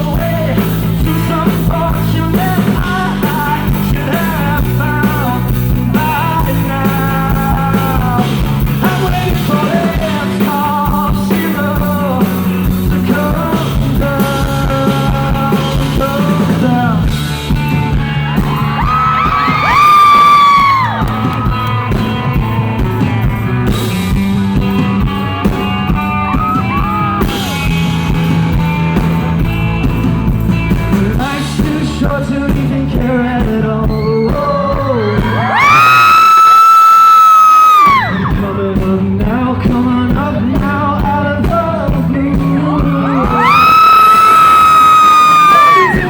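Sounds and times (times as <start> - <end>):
live rock band with singer: 0.0 - 46.0.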